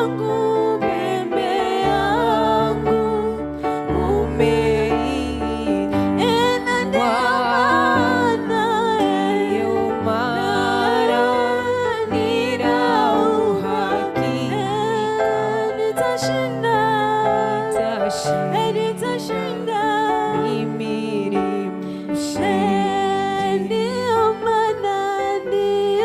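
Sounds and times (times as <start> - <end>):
person singing long notes: 0.0 - 21.8
sustained musical backing: 0.0 - 26.0.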